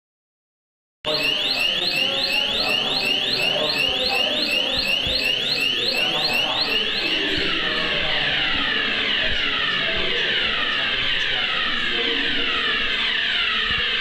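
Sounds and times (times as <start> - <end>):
fire alarm siren sweeping: 1.1 - 14.0.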